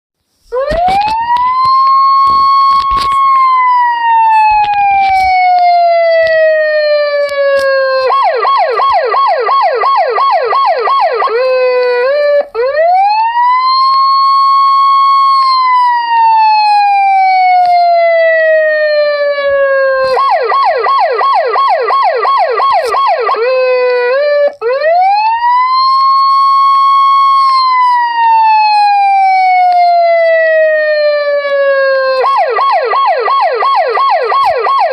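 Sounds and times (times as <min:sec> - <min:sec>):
police siren wail and yelp: 0:00.5 - 0:34.9.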